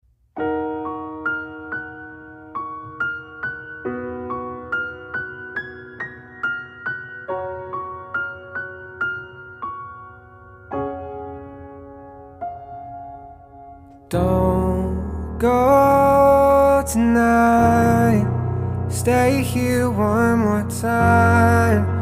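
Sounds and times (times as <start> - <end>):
slow piano ballad introduction: 0.3 - 22.0.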